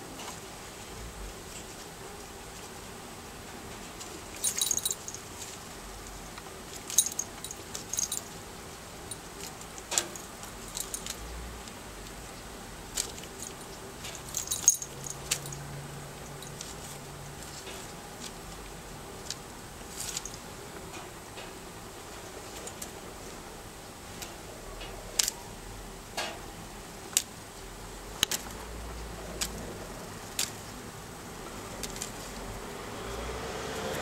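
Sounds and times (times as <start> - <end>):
leaves rustling: 0.0 - 21.1, 27.0 - 34.0.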